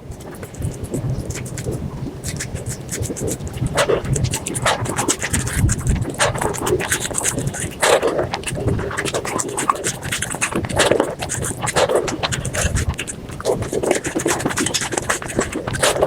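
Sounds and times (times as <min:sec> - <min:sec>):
crispy food crackling: 0:00.0 - 0:16.0
low mouth sound: 0:00.0 - 0:16.0
rapid chewing and mouth smacks: 0:00.0 - 0:16.0.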